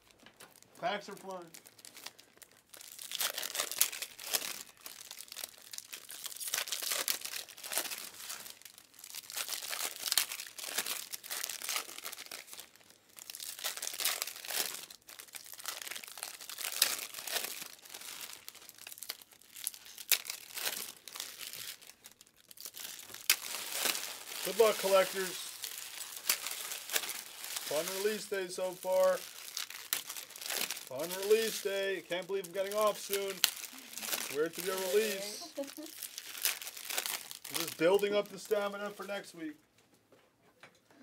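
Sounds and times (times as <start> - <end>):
foil wrappers tearing and crinkling: 0.0 - 39.3.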